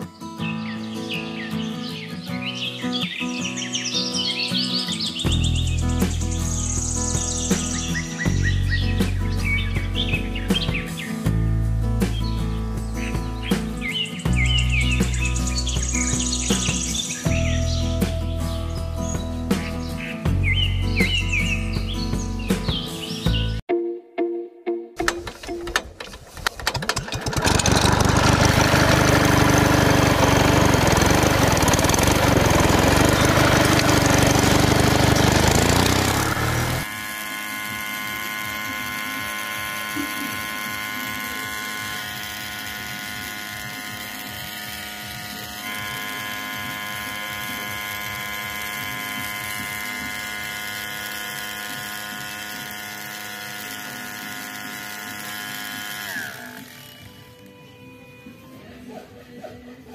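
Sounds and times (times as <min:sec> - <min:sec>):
small water pump motor running: 0:04.2 - 0:11.3, 0:13.4 - 0:22.3, 0:25.0 - 0:57.6.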